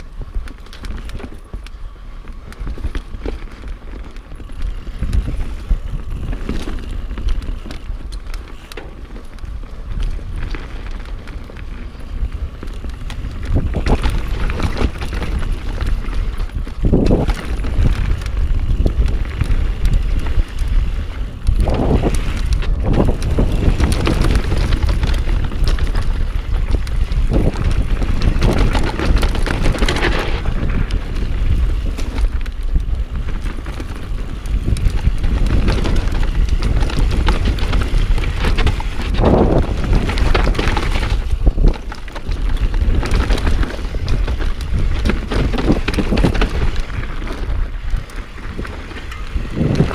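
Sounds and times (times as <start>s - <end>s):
bike clattering and rattling: 0.0s - 49.9s
wind buffeting microphone: 0.0s - 49.9s.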